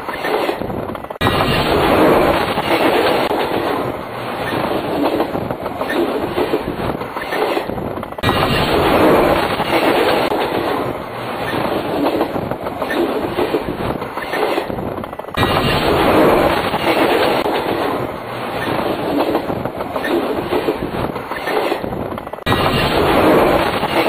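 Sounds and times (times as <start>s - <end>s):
train wheels clattering overhead: 0.0s - 24.0s.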